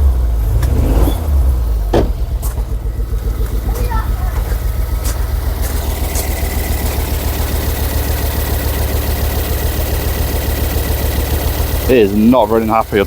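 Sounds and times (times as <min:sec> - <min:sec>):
car engine idling unevenly: 0:00.0 - 0:13.0.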